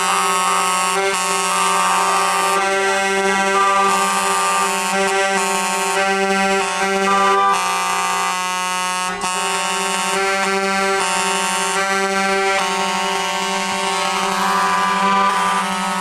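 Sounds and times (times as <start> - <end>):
truck air horns blaring: 0.0 - 16.0.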